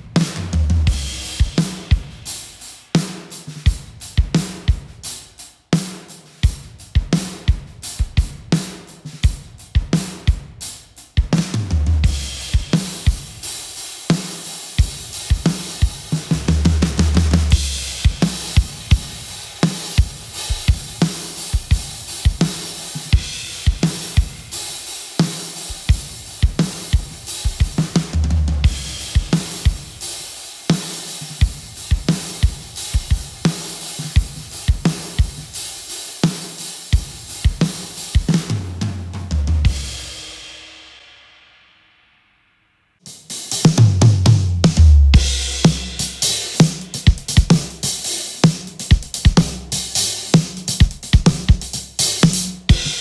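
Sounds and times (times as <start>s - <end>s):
drum kit playing: 0.0s - 41.1s, 43.0s - 53.0s.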